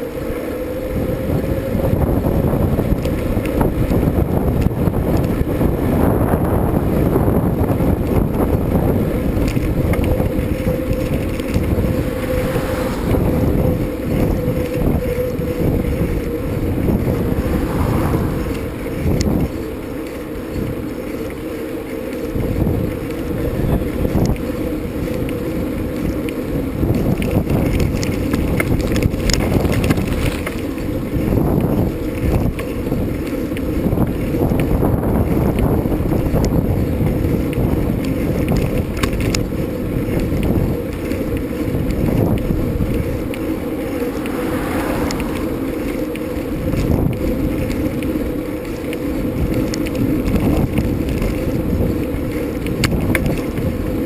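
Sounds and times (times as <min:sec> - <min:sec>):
low riding rumble: 0:00.0 - 0:54.0
wind buffeting microphone: 0:00.0 - 0:54.0.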